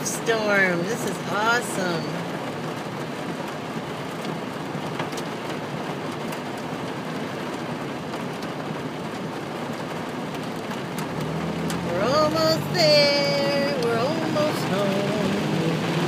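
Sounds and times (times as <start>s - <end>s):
heavy rain on car: 0.0s - 16.0s.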